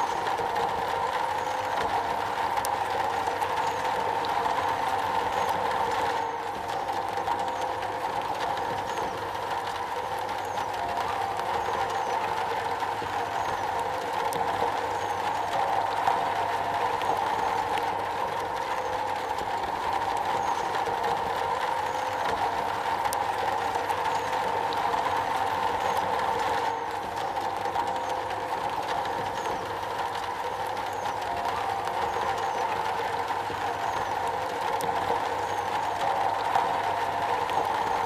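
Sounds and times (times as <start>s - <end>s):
rain on a metal roof: 0.0s - 38.0s.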